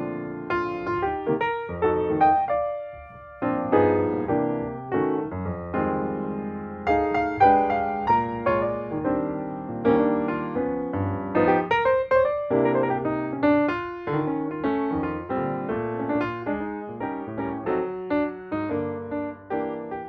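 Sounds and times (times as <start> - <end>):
piano melody with chords: 0.0 - 20.0.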